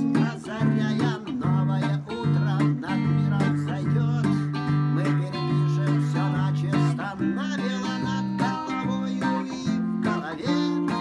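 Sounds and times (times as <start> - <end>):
solo electric guitar: 0.0 - 11.0.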